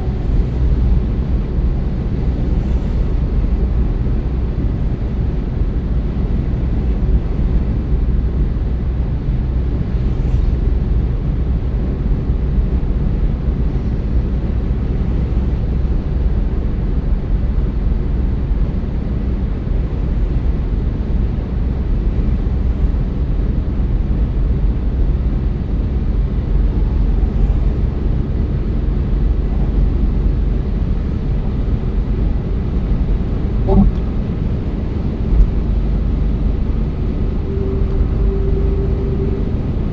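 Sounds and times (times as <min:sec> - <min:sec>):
car driving road rumble: 0:00.0 - 0:39.9.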